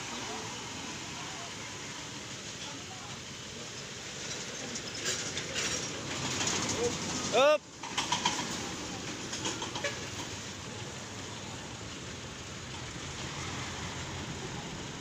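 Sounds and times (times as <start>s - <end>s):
truck traffic on highway: 0.0s - 15.0s.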